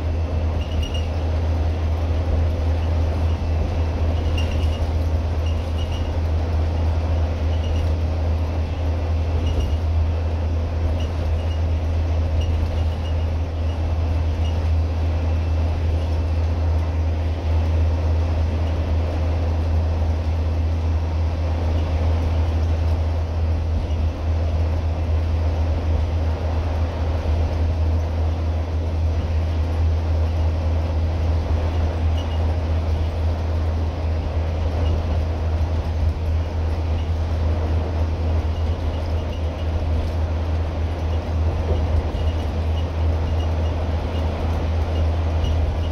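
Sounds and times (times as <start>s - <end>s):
bus diesel engine drone: 0.0s - 45.9s
road and wind noise: 0.0s - 45.9s.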